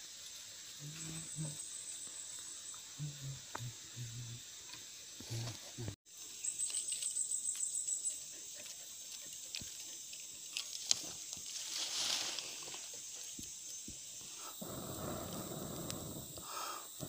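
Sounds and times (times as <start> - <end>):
insect chirping rapidly: 0.0 - 17.0
insects buzzing: 0.0 - 17.0.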